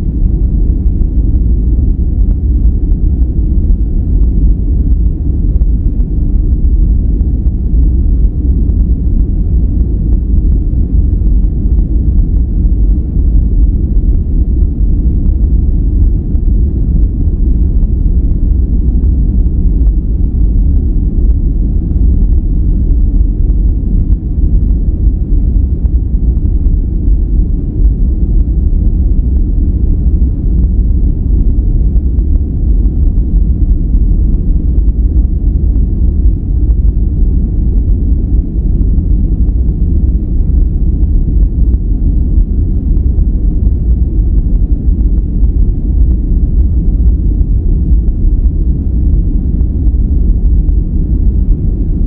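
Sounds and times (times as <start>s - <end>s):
low rumbling noise: 0.0s - 52.0s.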